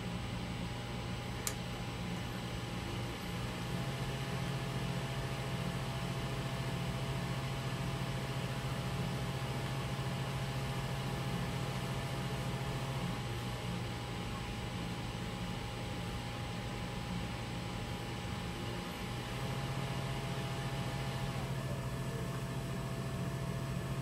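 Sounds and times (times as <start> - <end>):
computer fan hum: 0.0 - 24.0.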